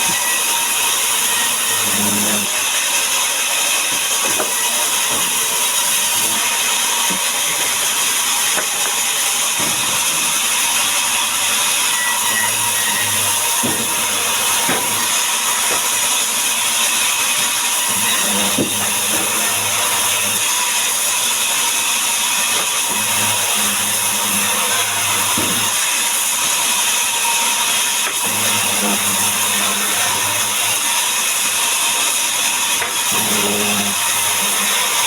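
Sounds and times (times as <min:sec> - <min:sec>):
power saw cutting timber: 0:00.0 - 0:35.0.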